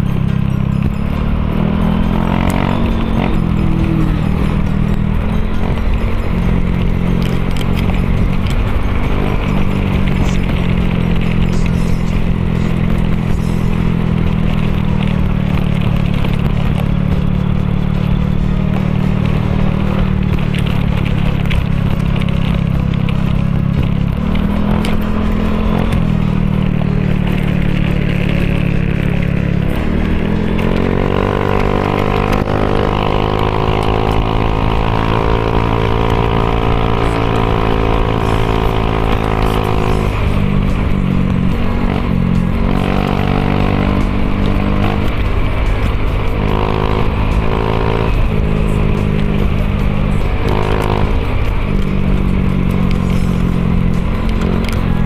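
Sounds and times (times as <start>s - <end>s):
scooter engine running: 0.0s - 55.0s.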